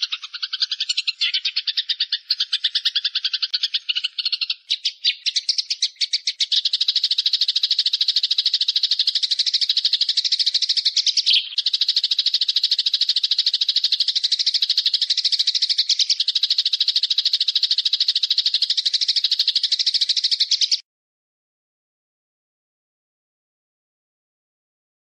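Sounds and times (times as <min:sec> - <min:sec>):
small bird rattling trill: 0:00.0 - 0:20.8.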